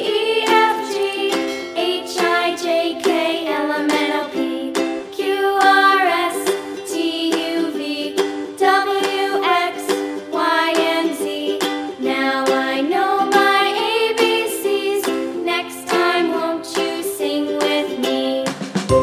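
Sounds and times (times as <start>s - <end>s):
cheerful children's music: 0.0s - 19.0s.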